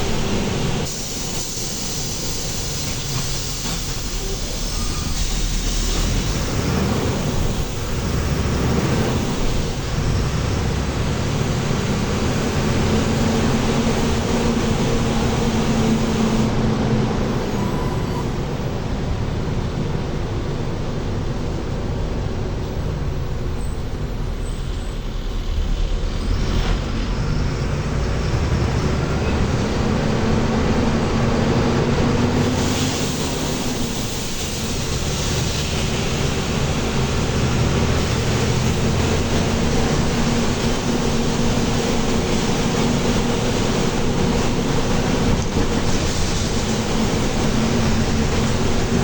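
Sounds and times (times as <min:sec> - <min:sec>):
bus diesel engine running: 0:00.0 - 0:49.0
road noise: 0:00.0 - 0:49.0.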